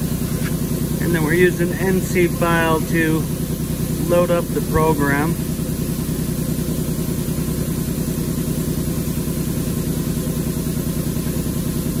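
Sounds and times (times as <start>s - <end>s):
shop machinery droning: 0.0s - 12.0s.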